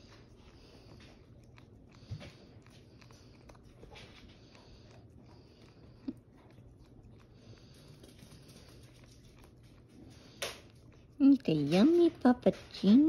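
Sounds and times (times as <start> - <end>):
dog licking: 0.0 - 13.0.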